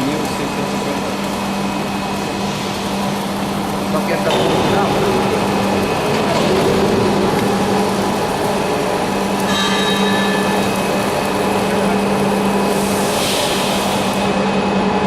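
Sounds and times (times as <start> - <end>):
high machine whine: 0.0 - 15.0
industrial machine humming and hissing: 0.0 - 15.0.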